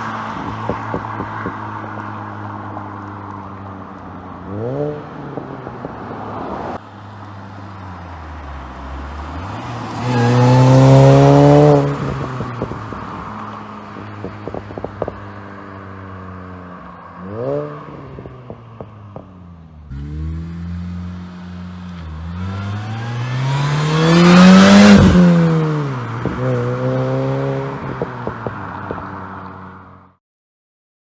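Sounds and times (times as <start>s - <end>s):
car engine idling and revving: 0.0s - 30.2s.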